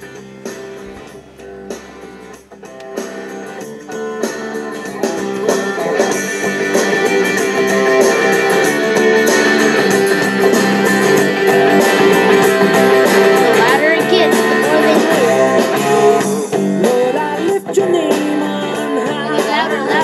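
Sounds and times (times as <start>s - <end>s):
guitar music through loudspeaker: 0.0s - 20.0s.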